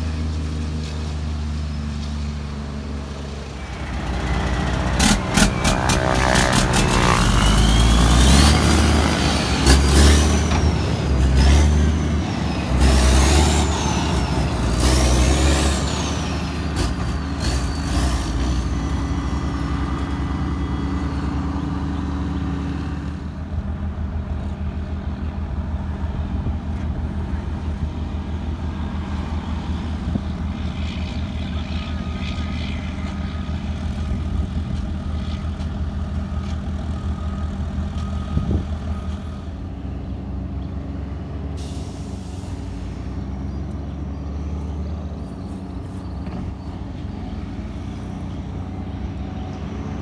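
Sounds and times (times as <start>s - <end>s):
rumble of passing trucks: 0.0s - 50.0s
truck engine shifting gears: 0.0s - 50.0s.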